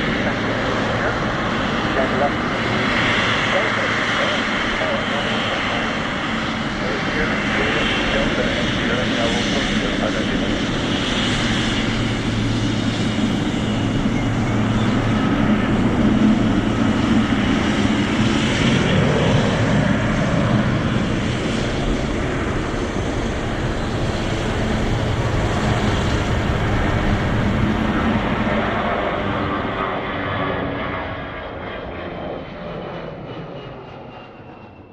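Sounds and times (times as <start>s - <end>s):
airliner engines running: 0.0s - 34.9s.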